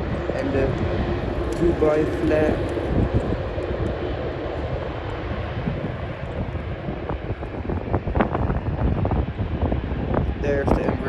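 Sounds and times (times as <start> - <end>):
distant jet engines rumbling: 0.0 - 11.0
wind buffeting microphone: 0.0 - 11.0.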